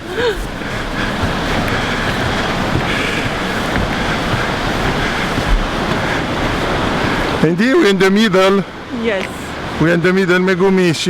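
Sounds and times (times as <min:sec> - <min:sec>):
loud rush of river water: 0:00.0 - 0:11.0.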